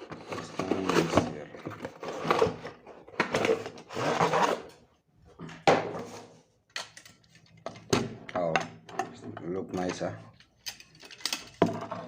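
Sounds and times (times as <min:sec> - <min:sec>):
plastic parts scraping and rustling: 0:00.0 - 0:04.8, 0:06.0 - 0:12.0.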